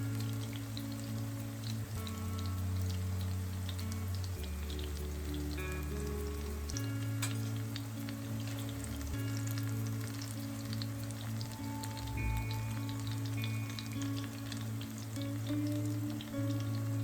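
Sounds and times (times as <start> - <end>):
crackling patter of faint ticks: 0.0 - 17.0
soft music of held notes: 0.0 - 17.0.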